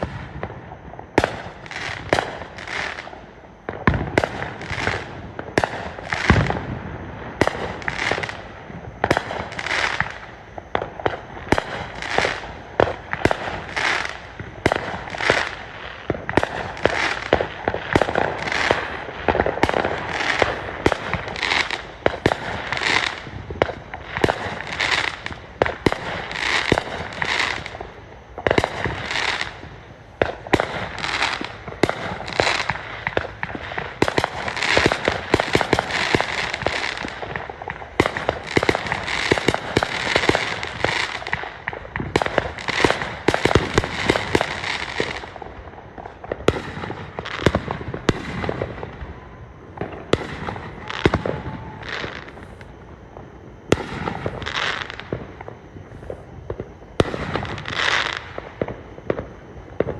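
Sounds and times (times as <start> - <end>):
deep fireworks booms: 0.0 - 59.9
fireworks bangs with crackling fizz: 0.0 - 59.9.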